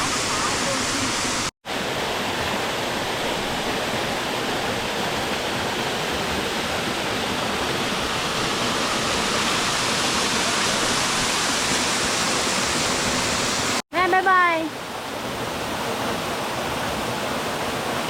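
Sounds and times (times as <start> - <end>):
waterfall water rushing: 0.0 - 13.8, 14.6 - 18.0.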